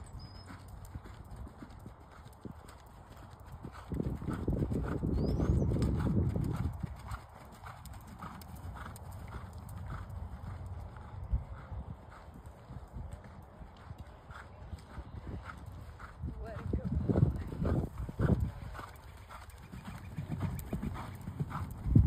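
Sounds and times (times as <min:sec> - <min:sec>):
horse hoofbeats trotting: 0:00.0 - 0:22.0.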